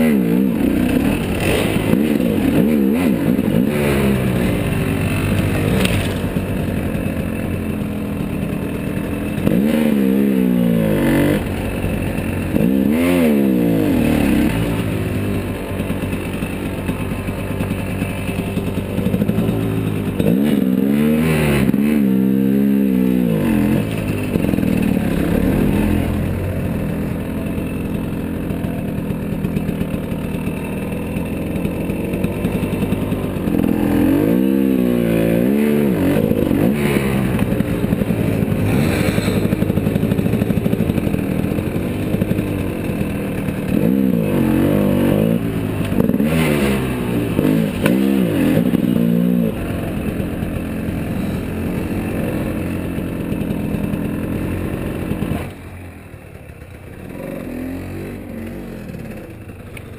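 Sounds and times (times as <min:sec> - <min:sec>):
dirt bike engine revving: 0:00.0 - 0:55.8, 0:56.9 - 0:59.7.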